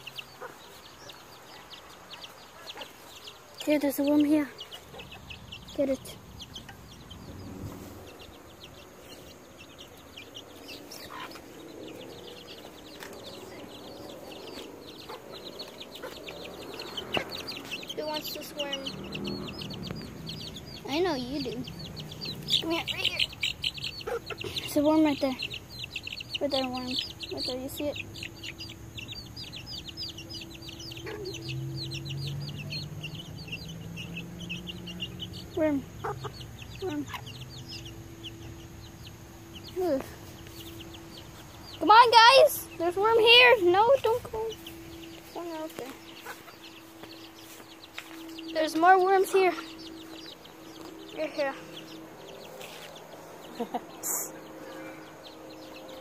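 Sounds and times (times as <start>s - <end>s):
fast high chirping: 0.0s - 54.4s
chickens clucking: 0.0s - 56.0s.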